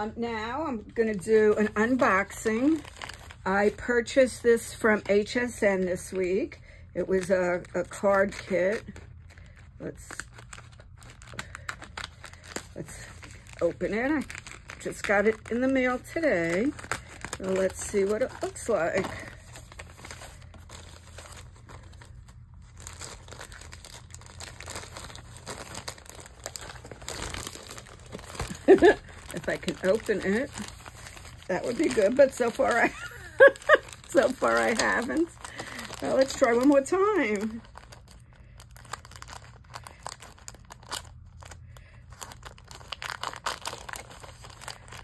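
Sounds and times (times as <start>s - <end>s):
plastic mailer bag crinkling: 0.0s - 45.0s.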